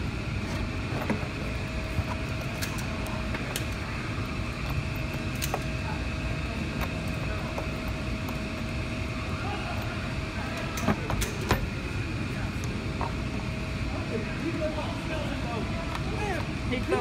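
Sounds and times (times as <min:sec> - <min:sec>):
workshop machine humming: 0:00.0 - 0:17.0.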